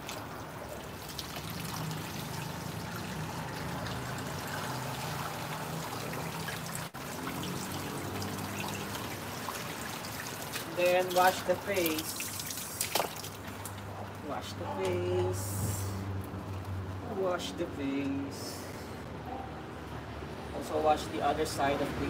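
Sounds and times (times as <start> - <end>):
water trickling on concrete: 0.0 - 18.2.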